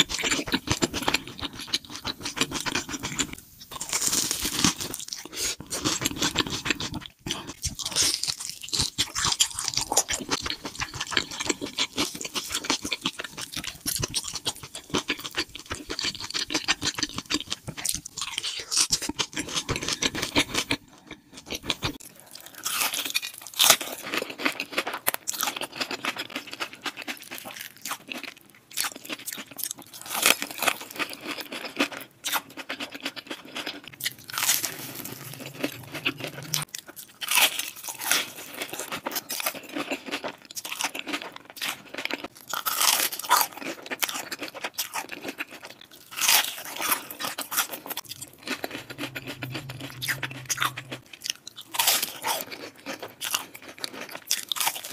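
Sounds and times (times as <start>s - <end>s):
crunching and chewing fried food: 0.0s - 54.9s.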